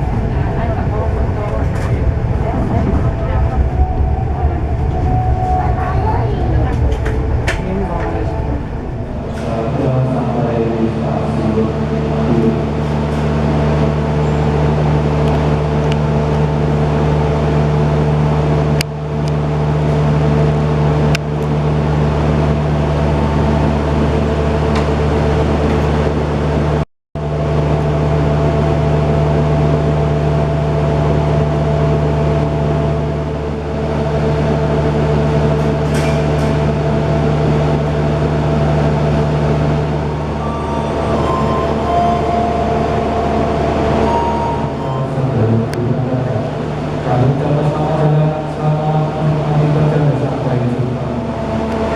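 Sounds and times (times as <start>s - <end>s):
machine hum: 0.0s - 35.6s, 36.6s - 51.9s
train rumbling: 0.0s - 51.9s.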